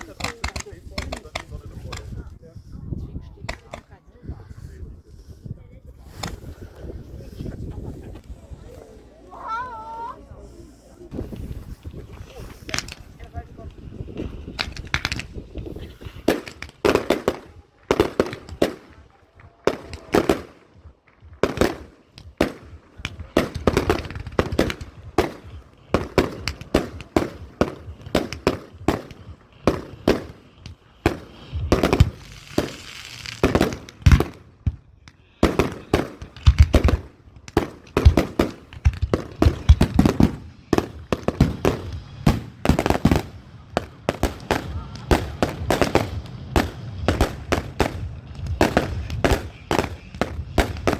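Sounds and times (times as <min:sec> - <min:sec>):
fireworks bangs: 0:00.0 - 0:05.4, 0:06.0 - 0:50.9
crackling hiss: 0:06.0 - 0:50.9.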